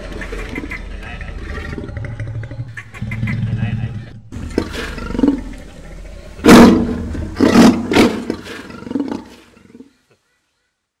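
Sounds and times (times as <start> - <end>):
lion grunting calls: 0.0 - 9.9
lion roaring: 0.1 - 9.8.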